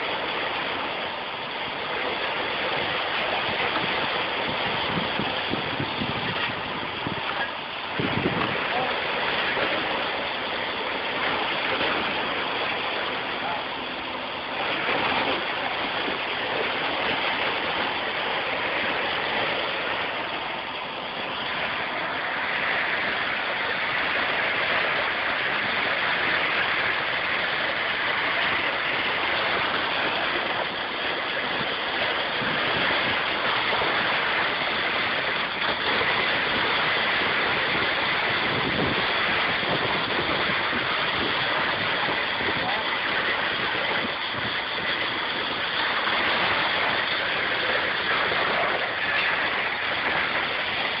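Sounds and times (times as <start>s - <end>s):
constant rushing noise: 0.0s - 51.0s.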